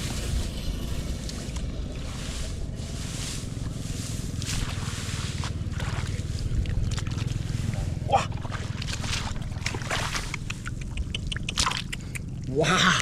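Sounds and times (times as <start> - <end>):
water splashing and sloshing: 0.0 - 12.6
low rumble: 0.0 - 13.0.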